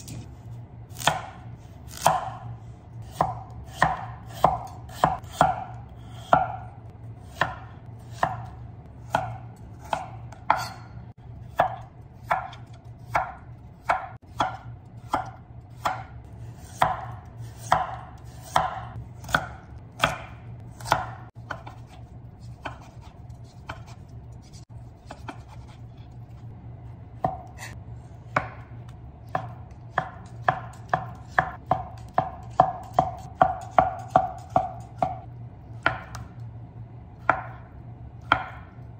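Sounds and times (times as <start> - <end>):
knife chopping on wooden board: 1.0 - 10.9, 11.5 - 24.0, 25.0 - 25.8, 27.2 - 28.7, 29.3 - 36.3, 37.2 - 38.7.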